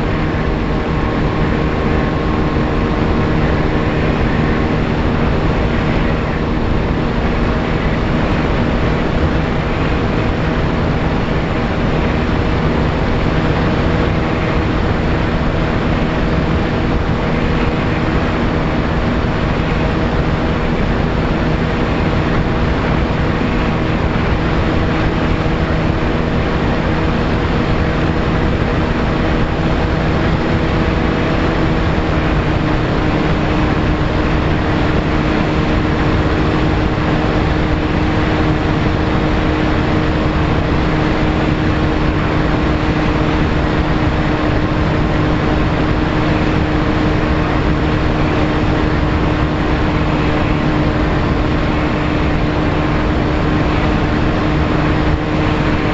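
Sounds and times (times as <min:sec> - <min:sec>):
model aircraft motor humming: 0:00.0 - 0:55.9
wind on microphone: 0:00.0 - 0:55.9.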